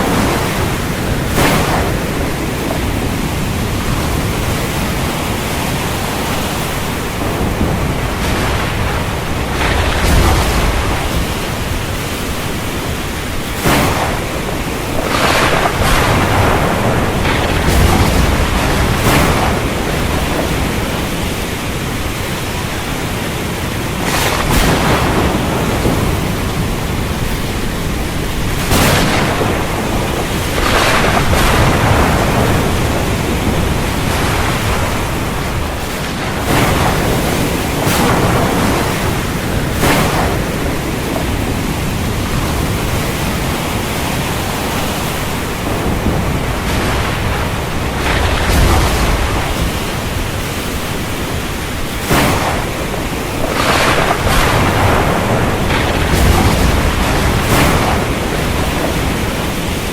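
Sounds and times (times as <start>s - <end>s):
waves breaking: 0.0s - 59.9s
wind: 0.0s - 59.9s.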